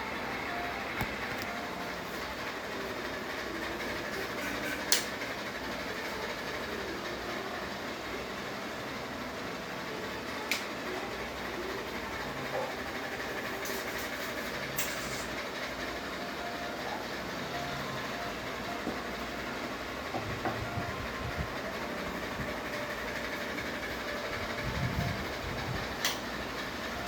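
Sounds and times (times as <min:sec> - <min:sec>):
ceiling fan whirring: 0:00.0 - 0:27.0.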